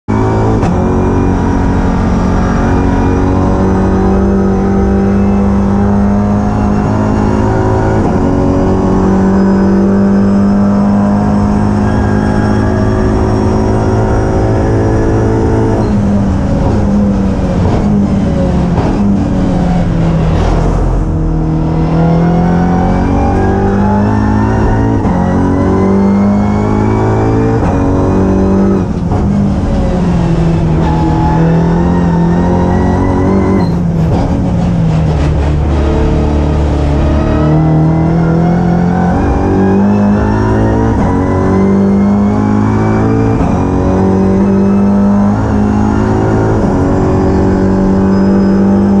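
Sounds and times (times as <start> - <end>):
racing car engine shifting gears: 0.1 - 49.0.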